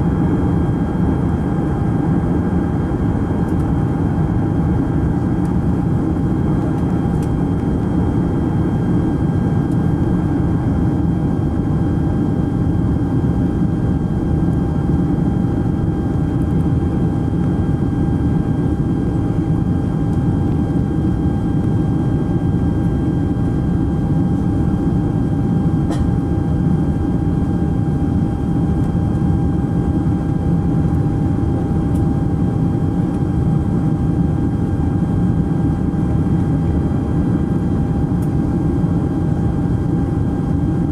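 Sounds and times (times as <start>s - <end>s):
airliner cabin engine roar: 0.0s - 40.9s.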